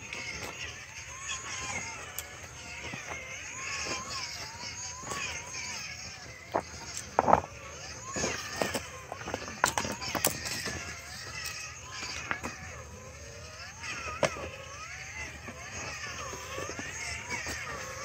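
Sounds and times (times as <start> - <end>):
electric motor whine: 0.0 - 18.0
tires knocking against rocks: 0.0 - 18.0.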